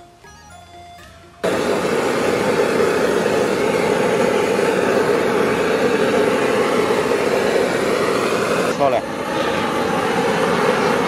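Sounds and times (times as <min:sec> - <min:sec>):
gas torch flame rushing: 0:01.4 - 0:11.0.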